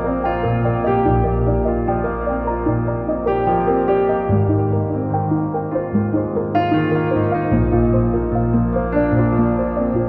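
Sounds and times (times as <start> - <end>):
calm new-age keyboard music: 0.0 - 10.0.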